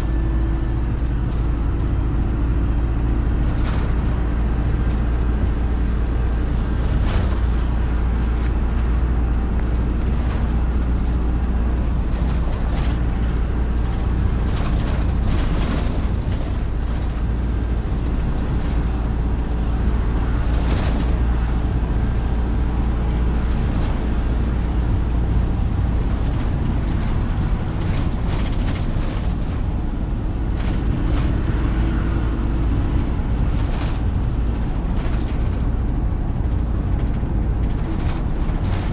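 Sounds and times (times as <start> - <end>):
short rattles and knocks: 0.0 - 21.5, 22.2 - 38.9
bus engine and road rumble: 0.0 - 38.9.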